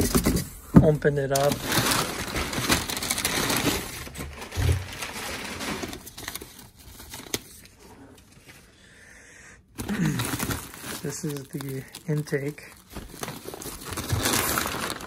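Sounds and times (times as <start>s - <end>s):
packing paper rustling and crinkling: 0.0s - 8.7s, 9.8s - 15.0s.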